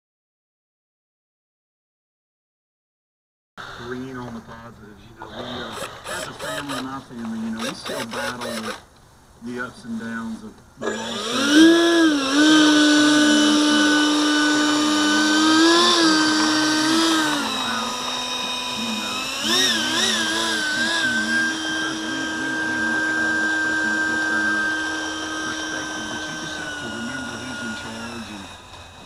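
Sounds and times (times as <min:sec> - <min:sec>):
electric ducted fan whining: 0:03.6 - 0:29.0.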